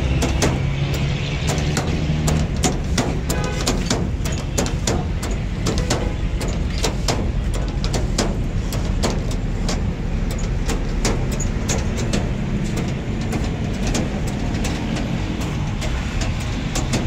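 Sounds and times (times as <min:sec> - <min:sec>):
sharp clicks and knocks: 0:00.0 - 0:17.0
street traffic rumble: 0:00.0 - 0:17.0.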